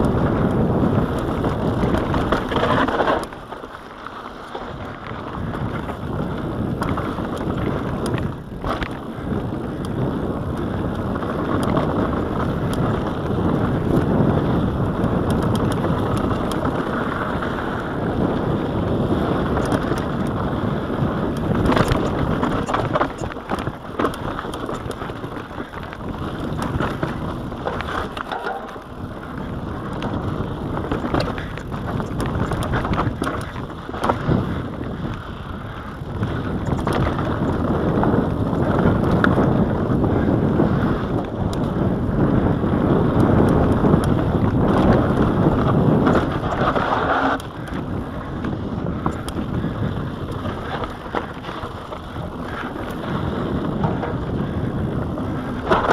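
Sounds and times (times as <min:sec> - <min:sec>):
bike rattling over rocks: 0:00.0 - 0:55.9
tyres rumbling on dirt: 0:00.0 - 0:55.9
wind buffeting microphone: 0:00.0 - 0:55.9.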